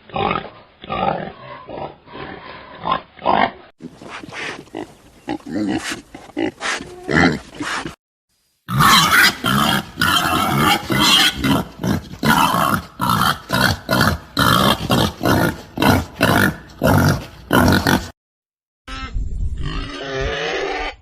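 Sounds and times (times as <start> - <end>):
pig grunting: 0.0 - 8.0, 8.7 - 18.1.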